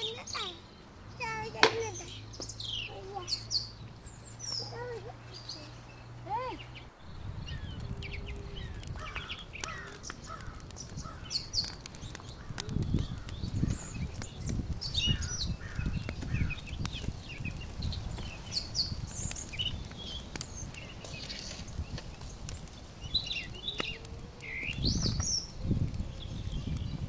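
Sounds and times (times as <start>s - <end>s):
low uneven rumble: 0.0s - 27.0s
small birds chirping: 0.0s - 27.0s.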